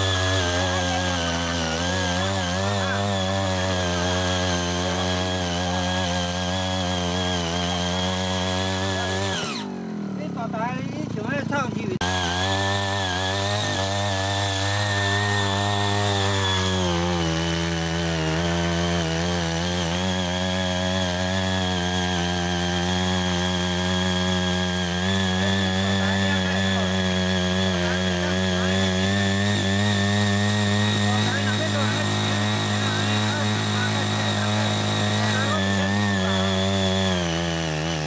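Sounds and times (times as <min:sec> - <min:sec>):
rotary tines churning soil: 0:00.0 - 0:09.8, 0:12.0 - 0:38.0
small tiller engine running: 0:00.0 - 0:38.0.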